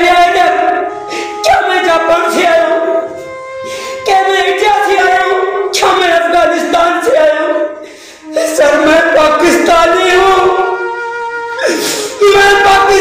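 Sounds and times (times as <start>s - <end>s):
person singing mournful song: 0.0s - 13.0s.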